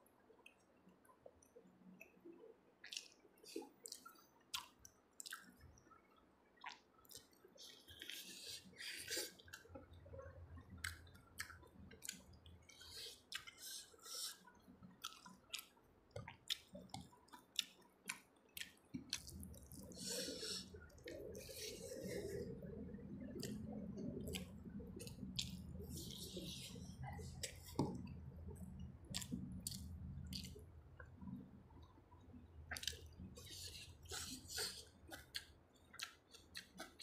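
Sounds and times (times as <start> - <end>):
wet chewing and lip smacking: 2.8 - 5.7, 6.6 - 37.0.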